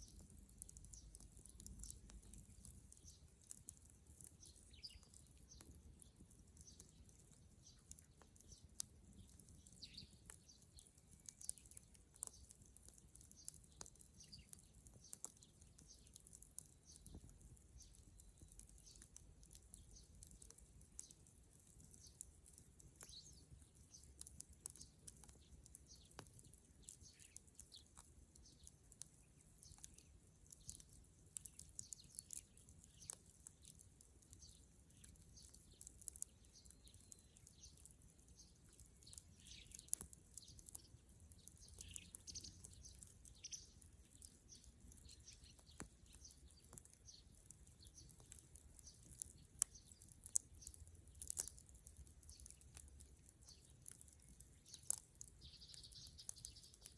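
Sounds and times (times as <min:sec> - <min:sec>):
bonfire crackling and popping: 0:00.0 - 0:56.9.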